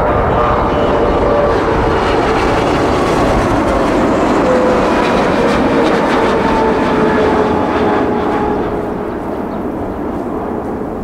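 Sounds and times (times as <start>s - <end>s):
jet engine roar with whine: 0.0s - 11.0s.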